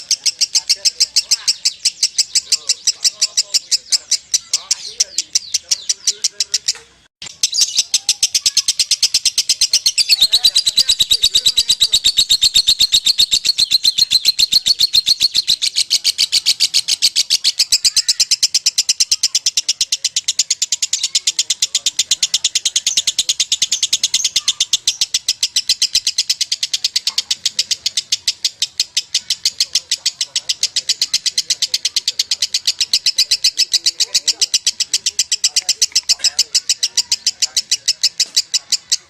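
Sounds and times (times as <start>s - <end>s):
lovebird chattering: 0.0s - 39.0s.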